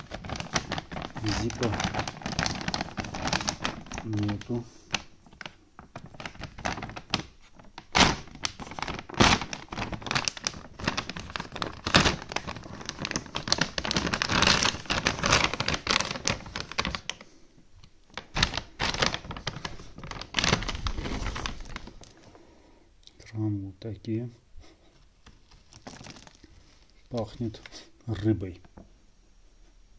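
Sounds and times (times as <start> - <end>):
plastic bag crinkling and tearing: 0.0 - 17.3, 18.0 - 22.4, 24.9 - 28.6.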